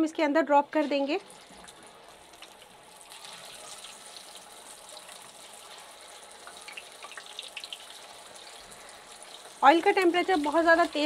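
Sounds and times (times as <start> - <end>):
fish deep-frying in oil: 0.7 - 11.0.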